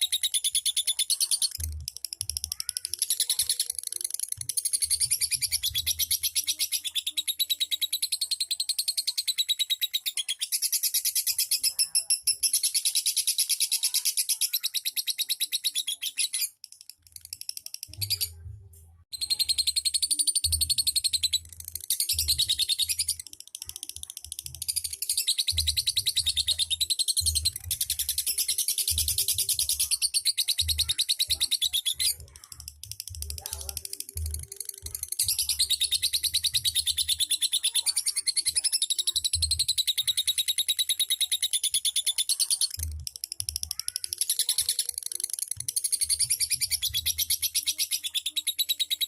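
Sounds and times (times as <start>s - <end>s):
lovebird rapid high chattering: 0.0s - 18.4s, 19.1s - 49.0s.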